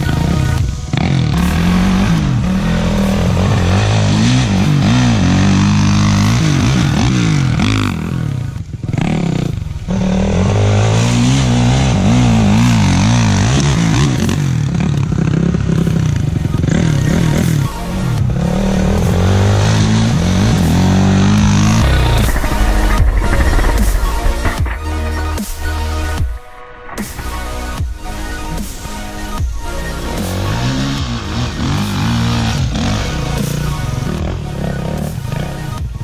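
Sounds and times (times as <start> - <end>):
dirt bike engine revving: 0.0 - 26.2, 26.9 - 35.8.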